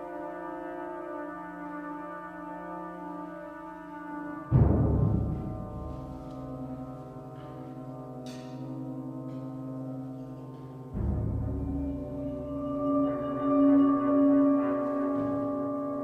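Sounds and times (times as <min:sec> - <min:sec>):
brass held tones: 0:00.0 - 0:16.0.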